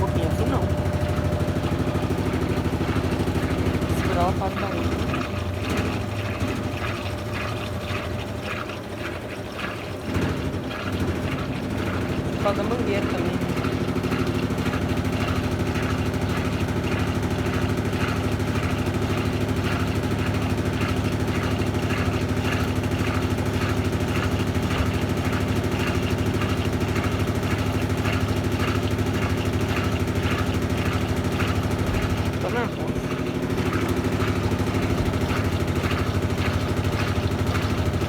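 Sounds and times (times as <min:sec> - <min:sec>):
washing machine spinning and rattling: 0:00.0 - 0:38.0.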